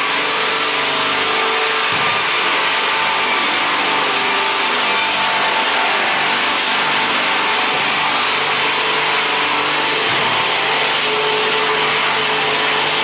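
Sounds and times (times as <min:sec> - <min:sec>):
sawing machine running: 0:00.0 - 0:13.0.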